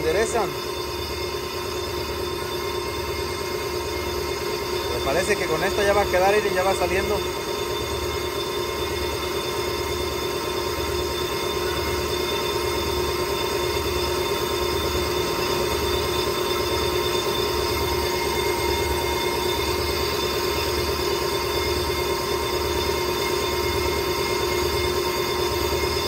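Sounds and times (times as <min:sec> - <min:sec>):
brake lathe metallic whine: 0:00.0 - 0:26.0.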